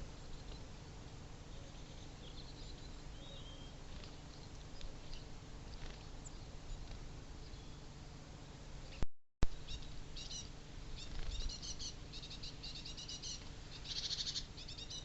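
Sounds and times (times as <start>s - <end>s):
small birds chirping: 0.0s - 8.0s, 8.8s - 15.0s.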